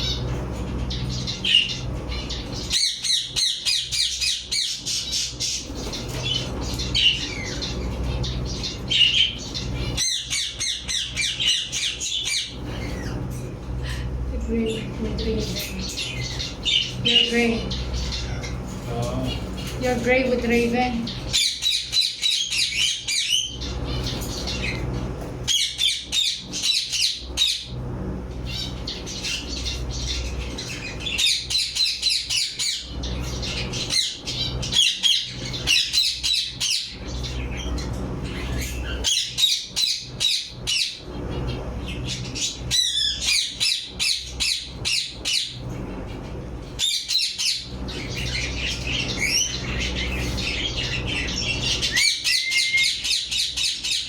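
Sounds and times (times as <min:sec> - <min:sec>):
low steady hum: 0:00.0 - 0:54.0
parrots chirping and squawking: 0:00.0 - 0:54.0.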